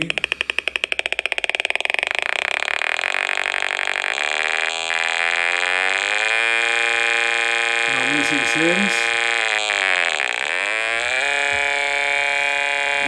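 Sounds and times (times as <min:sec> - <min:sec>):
continuous buzzing tone: 0:00.0 - 0:13.0
meter rapid clicking: 0:00.0 - 0:13.0.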